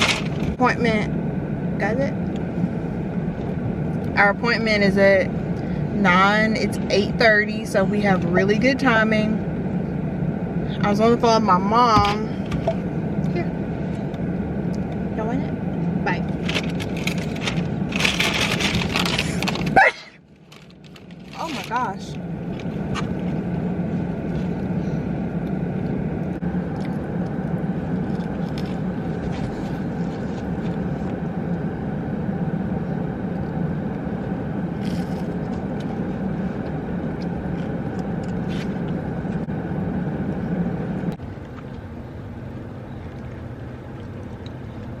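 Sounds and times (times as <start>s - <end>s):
car running with low hum: 0.0s - 45.0s.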